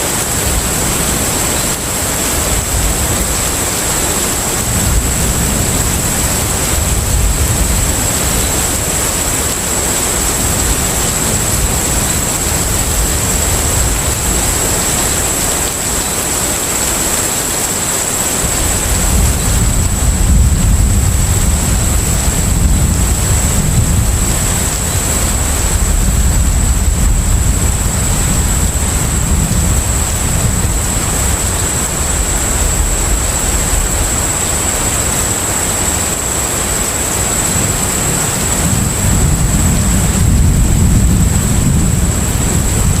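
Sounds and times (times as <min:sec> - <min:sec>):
ship engine low rumble: 0:00.0 - 0:43.0
wind and sea noise: 0:00.0 - 0:43.0.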